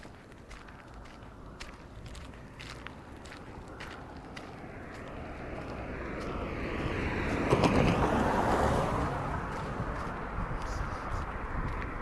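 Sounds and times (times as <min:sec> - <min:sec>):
car passing by: 0:00.7 - 0:12.0.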